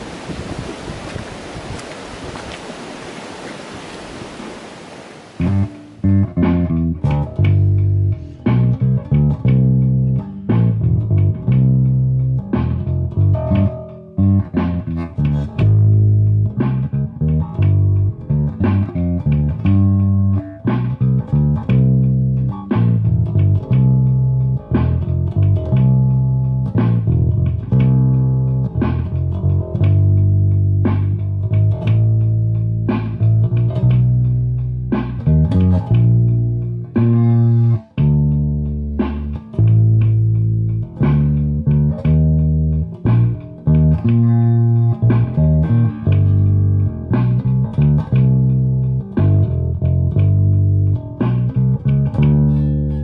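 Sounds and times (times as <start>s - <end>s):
electric bass fingerstyle: 5.4s - 53.0s.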